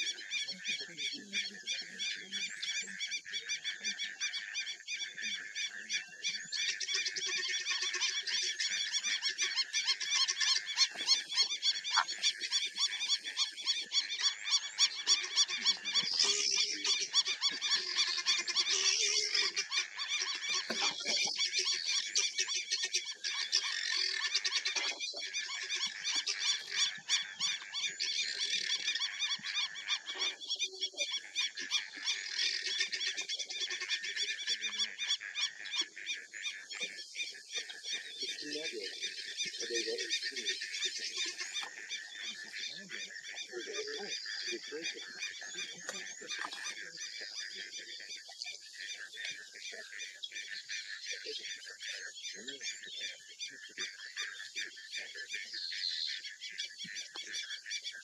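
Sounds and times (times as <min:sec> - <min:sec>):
high-pitched pulsing animal calls: 0:00.0 - 0:57.9.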